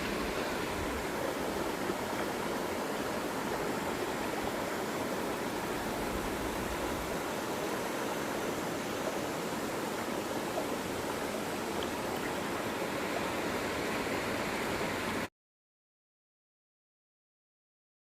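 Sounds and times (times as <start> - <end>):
flowing water rushing: 0.0 - 15.3.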